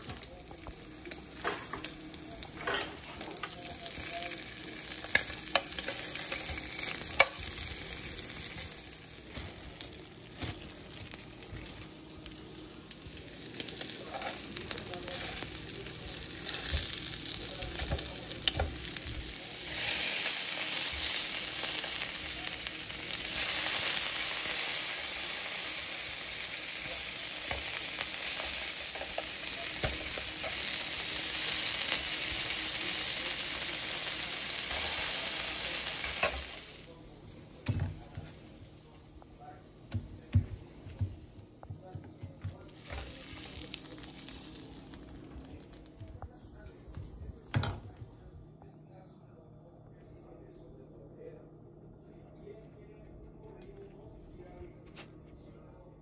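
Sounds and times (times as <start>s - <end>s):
sausages sizzling in a frying pan: 0.0s - 41.2s, 42.5s - 46.2s.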